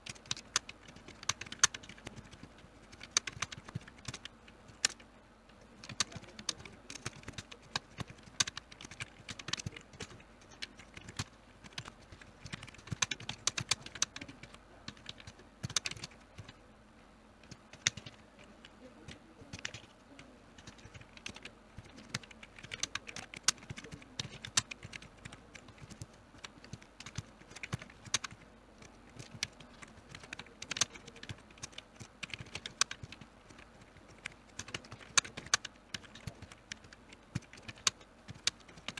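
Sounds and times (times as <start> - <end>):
keyboard typing: 0.0 - 16.6, 17.4 - 38.9.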